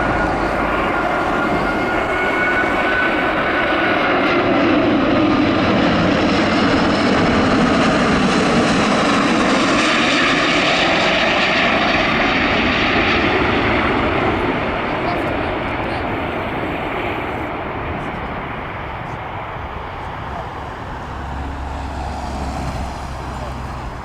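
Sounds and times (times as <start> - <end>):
high engine whine: 0.0 - 24.0
jet engines roaring: 0.0 - 24.0.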